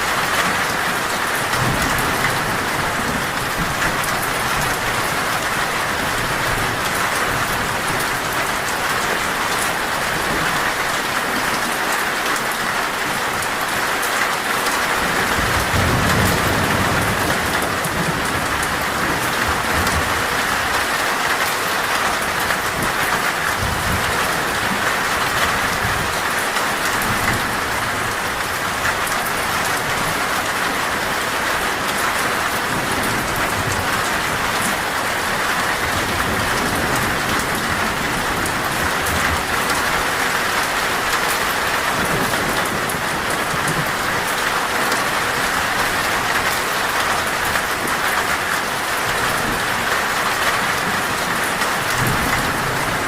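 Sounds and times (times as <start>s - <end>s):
heavy rain on a metal roof: 0.0s - 53.0s.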